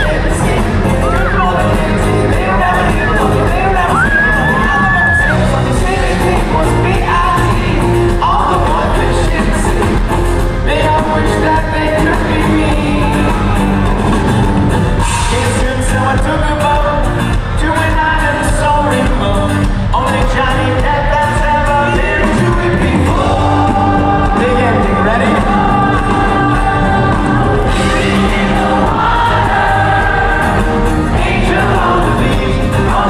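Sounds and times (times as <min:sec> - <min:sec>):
group of voices singing along: 0:00.0 - 0:14.0, 0:20.2 - 0:33.0
lead singer singing: 0:00.0 - 0:33.0
pop-rock band playing loudly: 0:00.0 - 0:33.0.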